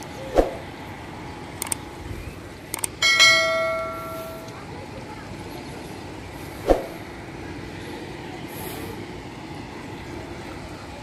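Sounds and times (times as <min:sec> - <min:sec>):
low outdoor rumble with hiss: 0:00.0 - 0:11.0.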